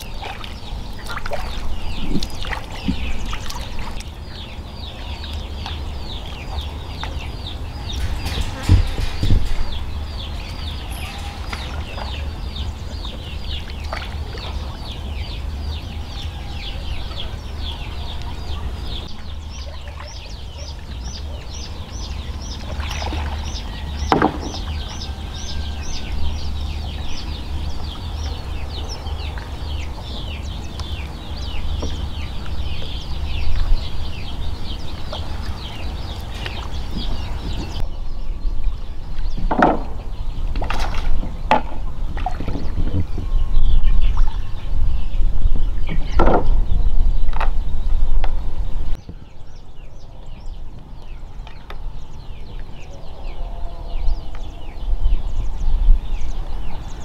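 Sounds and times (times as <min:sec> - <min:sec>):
birds cheeping rapidly: 0:00.0 - 0:57.0
steady low rumble: 0:00.0 - 0:57.0.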